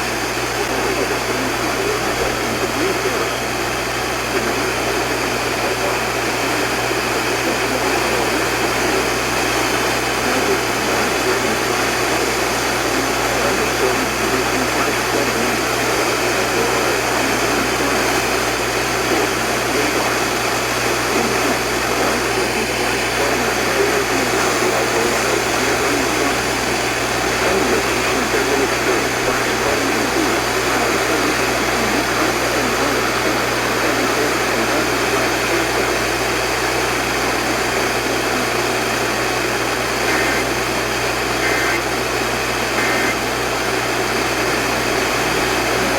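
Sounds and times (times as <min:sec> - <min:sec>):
radio static hiss: 0:00.0 - 0:45.9.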